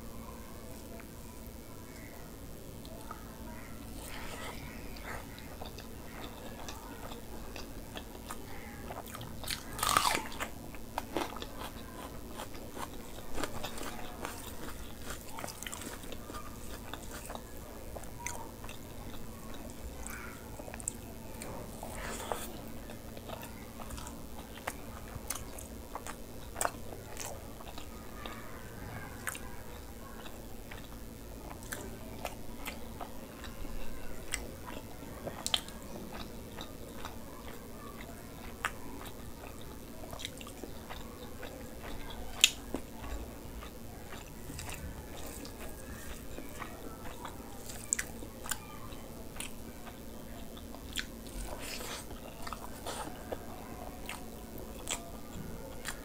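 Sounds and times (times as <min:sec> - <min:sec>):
faint steady hum: 0:00.0 - 0:56.0
chewing and wet mouth sounds: 0:03.8 - 0:56.0.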